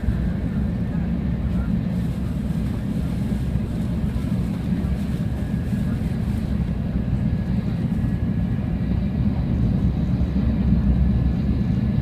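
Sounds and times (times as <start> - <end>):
train rumble inside car: 0.0 - 12.0.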